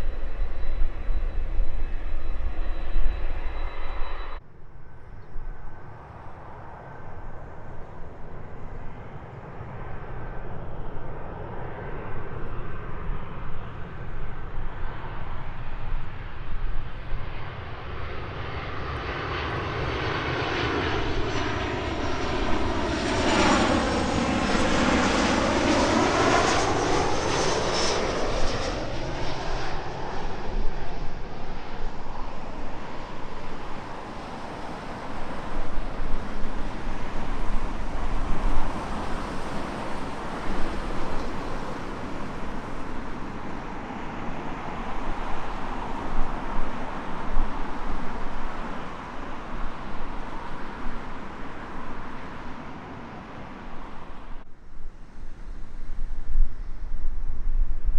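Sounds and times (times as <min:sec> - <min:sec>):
jet airliner passing overhead: 0:00.0 - 0:57.9.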